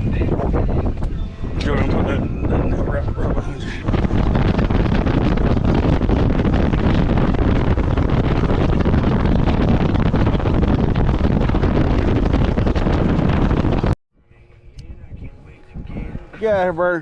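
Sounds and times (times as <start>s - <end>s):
boat running noise: 0.0s - 17.0s
wind roaring over microphone: 0.0s - 17.0s.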